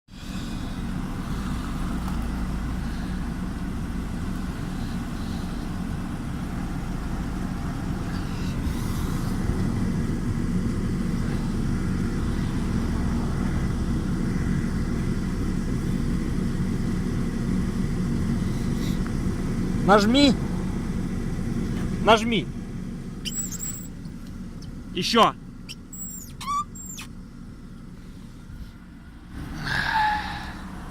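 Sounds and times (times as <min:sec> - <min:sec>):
car engine humming: 0:00.1 - 0:30.9.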